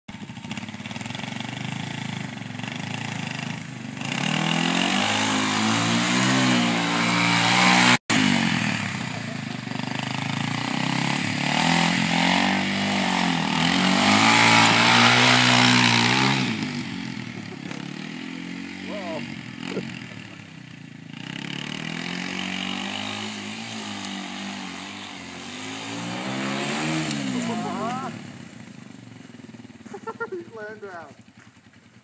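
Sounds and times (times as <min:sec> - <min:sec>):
dirt bike engine revving: 0:00.1 - 0:31.4.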